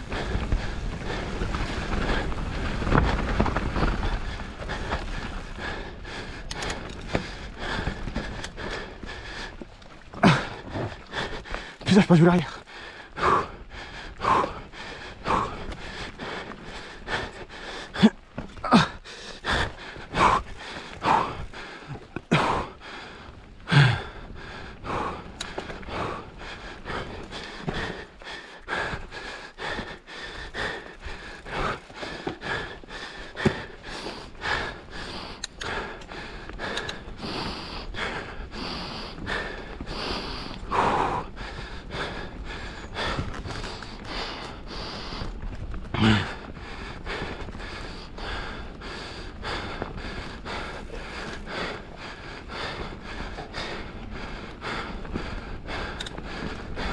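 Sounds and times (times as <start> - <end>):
person breathing hard: 0.0 - 56.9
steady rushing noise: 0.0 - 56.9.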